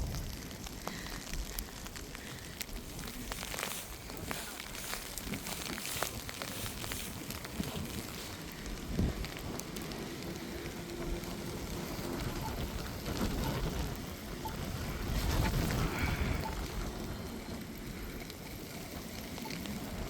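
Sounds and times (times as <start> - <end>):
ice pellets pattering: 0.0 - 20.0.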